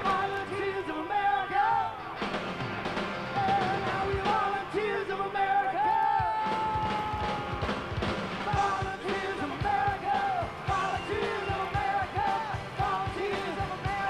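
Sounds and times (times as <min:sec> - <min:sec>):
vocalists singing: 0:00.0 - 0:02.2, 0:03.3 - 0:14.0
live rock band playing: 0:00.0 - 0:14.0.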